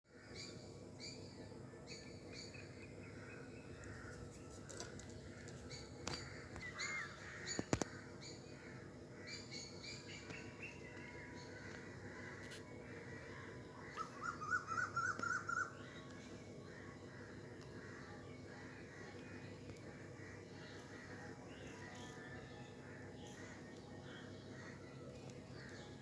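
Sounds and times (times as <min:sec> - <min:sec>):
steady low hum: 0:00.1 - 0:26.0
birds chirping: 0:00.2 - 0:26.0.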